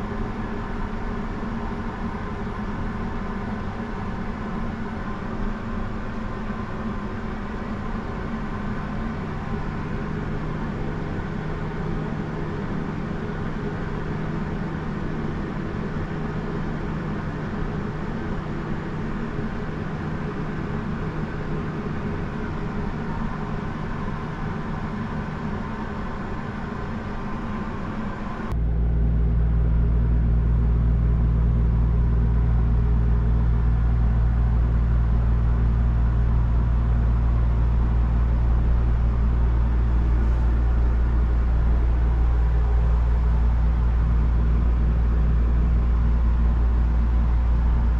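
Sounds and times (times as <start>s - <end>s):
mechanical hum: 0.0s - 47.9s.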